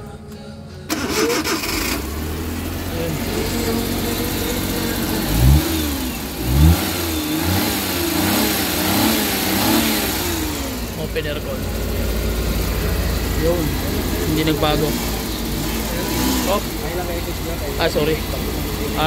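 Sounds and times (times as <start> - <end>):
engine revving and idling: 0.0 - 19.0.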